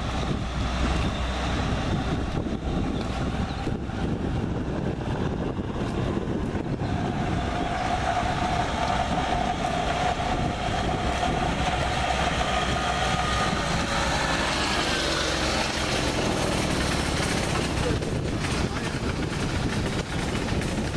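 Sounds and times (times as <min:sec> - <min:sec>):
distant vehicle engine whining: 0:00.0 - 0:20.9.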